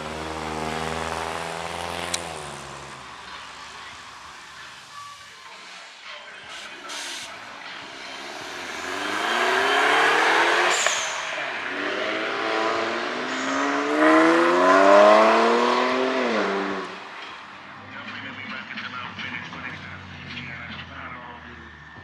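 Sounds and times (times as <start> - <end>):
car accelerating hard: 0.0 - 22.0.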